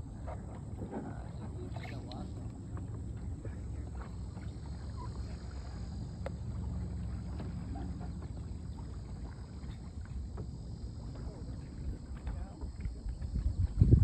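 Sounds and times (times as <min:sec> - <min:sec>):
water splashes: 0:00.0 - 0:14.0
wind and water rumble: 0:00.0 - 0:14.0.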